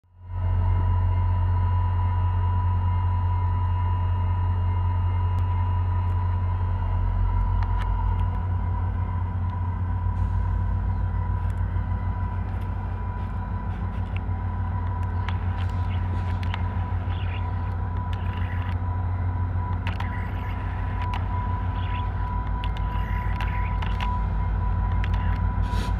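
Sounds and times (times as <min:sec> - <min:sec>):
constant high whine: 0:00.0 - 0:25.9
diesel locomotive engine rumble: 0:00.0 - 0:25.9.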